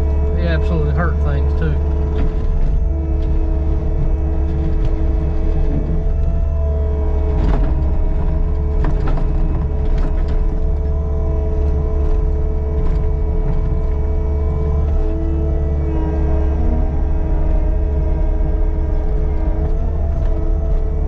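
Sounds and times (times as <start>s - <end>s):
diesel loader engine drone: 0.0s - 21.0s
multi-tone machine whine: 0.0s - 21.0s.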